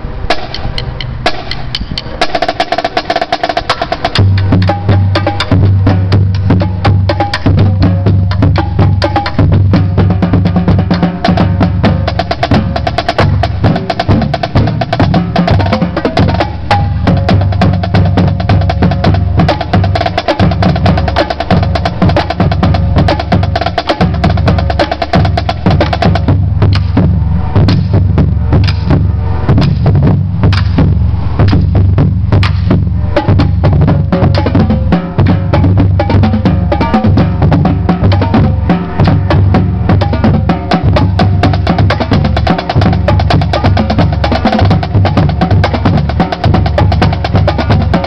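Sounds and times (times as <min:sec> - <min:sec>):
booming bass drums: 0:00.0 - 0:48.0
snare and tenor drums: 0:00.3 - 0:48.0.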